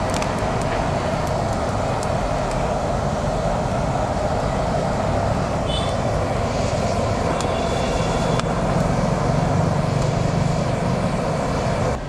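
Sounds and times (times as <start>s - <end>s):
stove roaring with blower: 0.0s - 12.0s.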